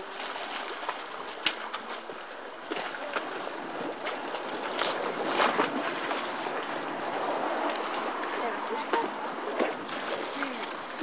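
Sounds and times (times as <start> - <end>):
water splashing against quay: 0.0 - 11.0.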